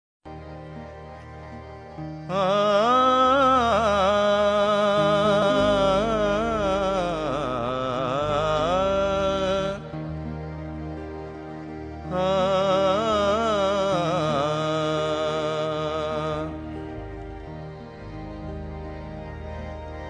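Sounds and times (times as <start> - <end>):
steady drone: 0.3 - 20.0
wordless ornamented singing: 0.5 - 18.8.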